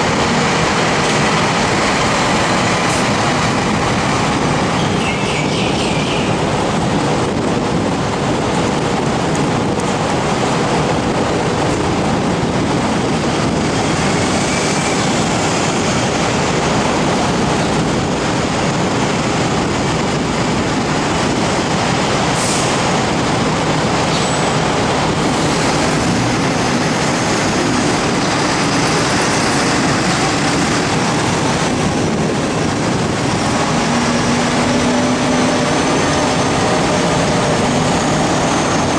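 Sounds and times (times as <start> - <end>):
diesel bus engines: 0.0 - 38.9
traffic noise: 0.0 - 38.9.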